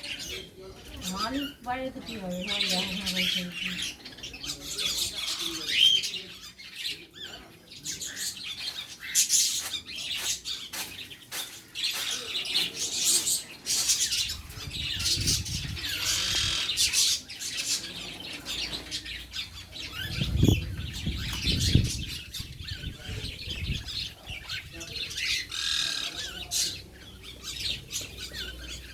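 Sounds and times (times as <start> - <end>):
birds chirping and squawking: 0.0 - 28.9.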